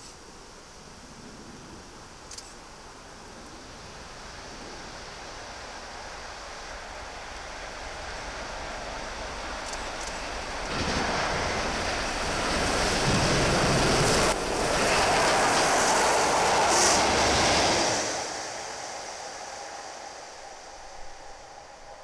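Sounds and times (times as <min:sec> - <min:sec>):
steam train passing at speed: 0:02.9 - 0:22.0.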